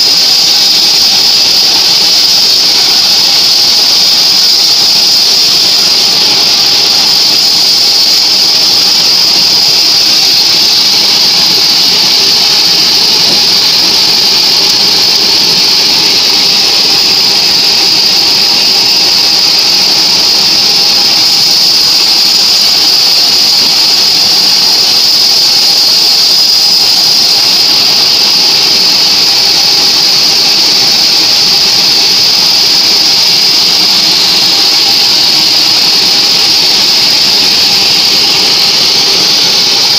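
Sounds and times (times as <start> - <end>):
band saw whining through log: 0.0 - 39.9.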